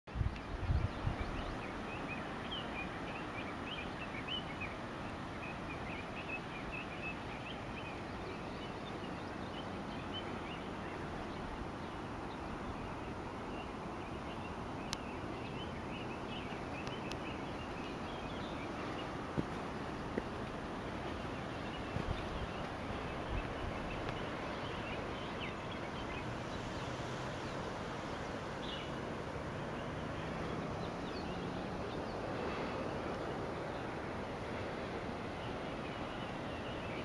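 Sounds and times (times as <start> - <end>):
wind: 0.0 - 37.0
small birds chirping: 0.2 - 37.0.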